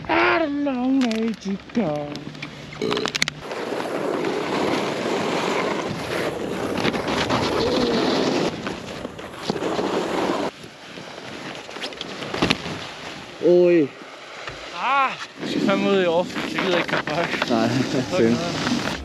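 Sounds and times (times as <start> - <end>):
skis sliding over snow: 3.4 - 19.0.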